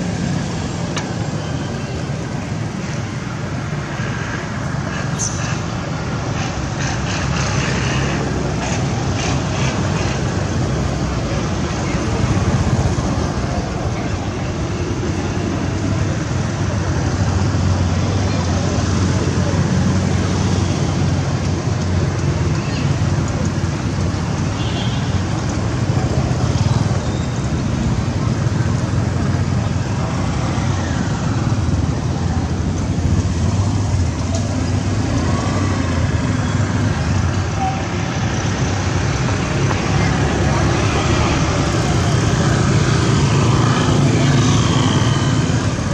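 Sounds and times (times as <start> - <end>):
low rumble of road traffic: 0.0 - 45.9.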